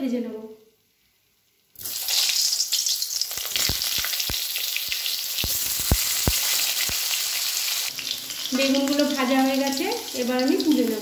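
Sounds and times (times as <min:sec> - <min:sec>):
vegetables sizzling in oil: 0:01.7 - 0:11.0.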